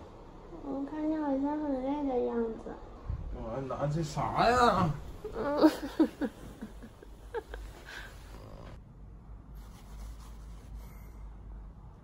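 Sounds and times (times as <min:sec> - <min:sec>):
quiet room hum: 0:00.0 - 0:12.0.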